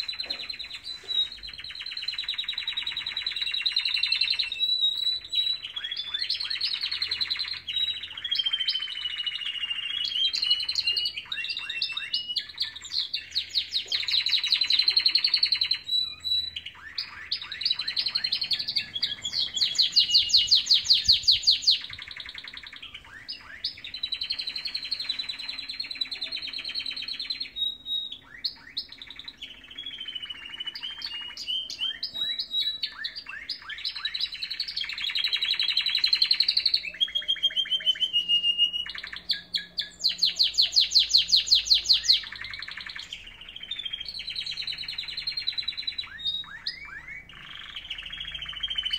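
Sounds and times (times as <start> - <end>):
canaries singing trills: 0.0 - 48.9.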